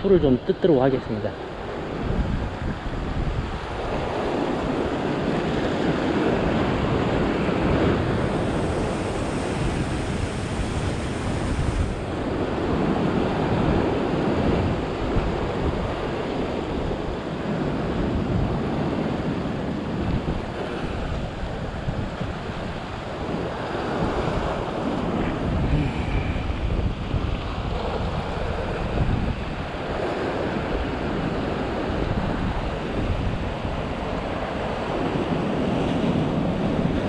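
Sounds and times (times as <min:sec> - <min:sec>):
waves washing against rocks: 0:00.0 - 0:37.0
wind buffeting microphone: 0:00.0 - 0:37.0.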